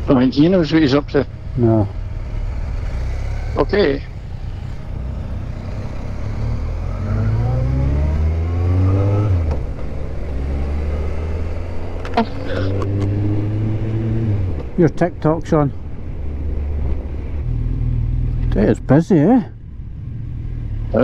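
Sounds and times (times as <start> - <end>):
motorcycle engine revving: 0.0 - 15.0, 16.1 - 21.0
low wind rush: 0.0 - 21.0.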